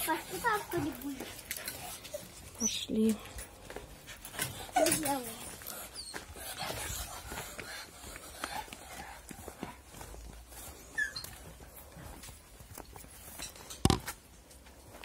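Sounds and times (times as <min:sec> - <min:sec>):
child footsteps on concrete: 0:00.0 - 0:15.0.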